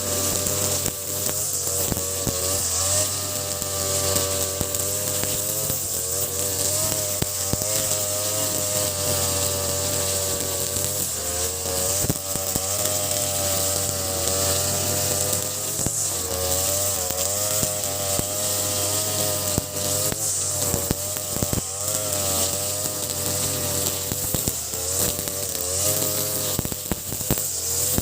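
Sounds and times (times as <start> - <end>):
brush cutter engine at high revs: 0.0 - 28.0.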